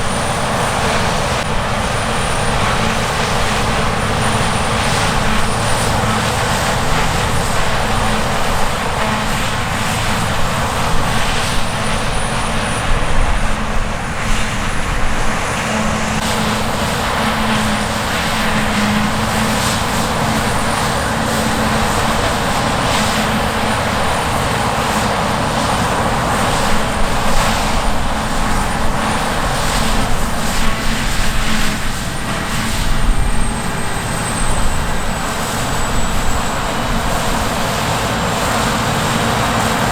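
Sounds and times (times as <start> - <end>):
combine harvester engine drone: 0.0 - 39.9
crackling rush of threshing: 0.0 - 39.9.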